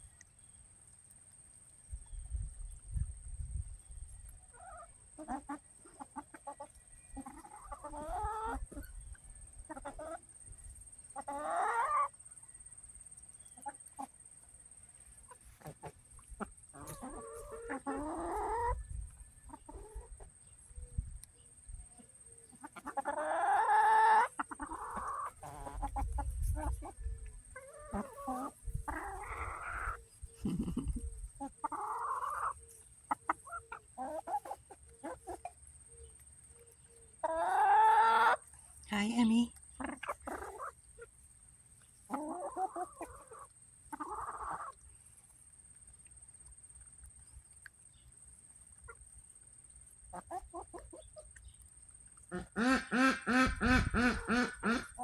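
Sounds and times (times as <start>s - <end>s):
chickens clucking and squawking: 0.0s - 55.0s.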